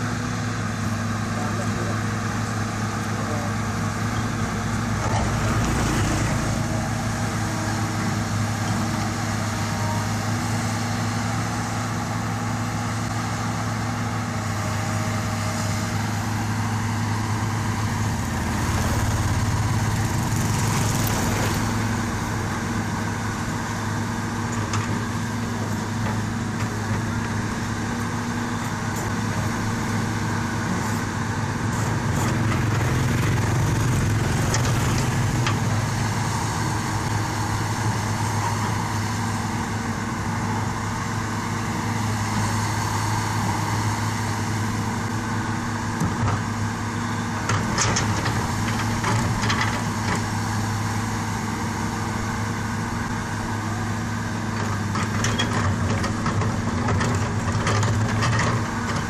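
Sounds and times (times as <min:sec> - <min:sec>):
excavator diesel engine digging: 0:00.0 - 0:59.0.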